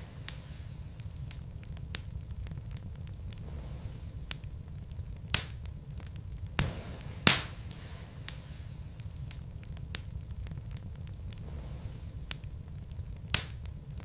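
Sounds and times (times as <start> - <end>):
burning logs popping: 0.0 - 14.0
fire low rumble: 0.0 - 14.0
wood fire crackling: 0.0 - 14.0.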